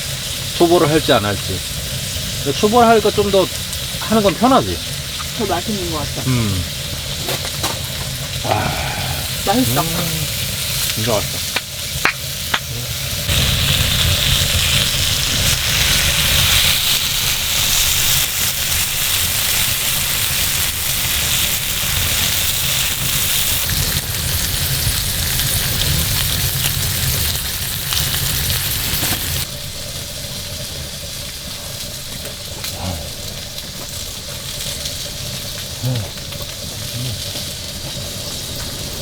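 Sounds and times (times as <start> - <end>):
meat sizzling over fire: 0.0 - 39.0.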